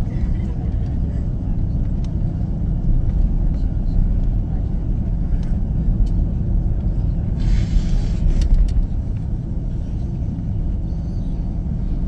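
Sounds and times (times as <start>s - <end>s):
aircraft cabin rumble taxiing: 0.0s - 12.0s.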